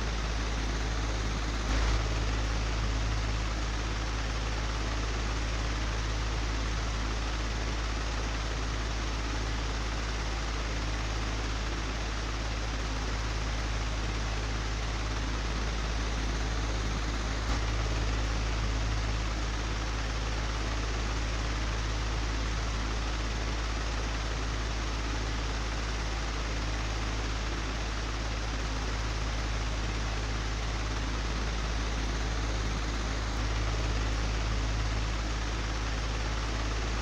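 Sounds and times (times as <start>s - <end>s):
electric fan running: 0.0s - 37.0s.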